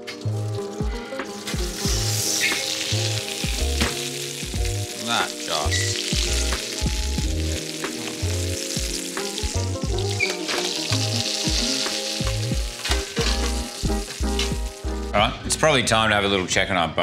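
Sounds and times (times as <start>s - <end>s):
steak sizzling in metal tray: 0.0s - 15.2s
background music with bass line: 0.0s - 16.7s.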